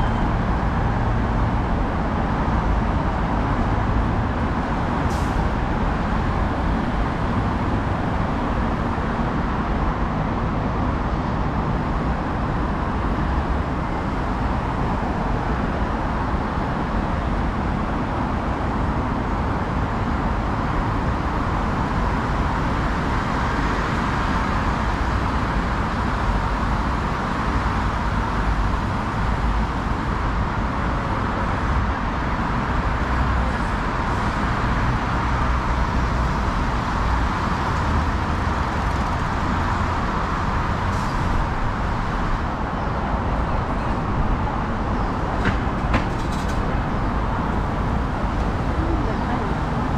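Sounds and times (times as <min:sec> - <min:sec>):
rumble of moving vehicles: 0:00.0 - 0:49.9.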